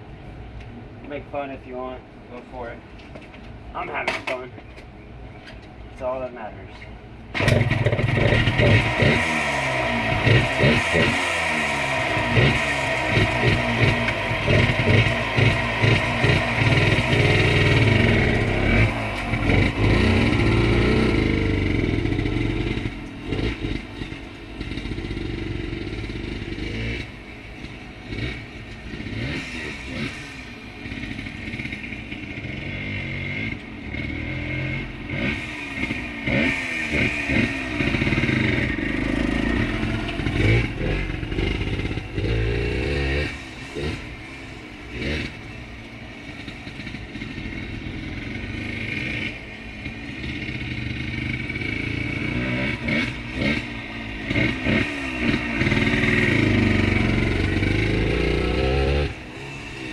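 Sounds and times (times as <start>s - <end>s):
two-stroke motorcycle engine revving: 7.3s - 59.9s.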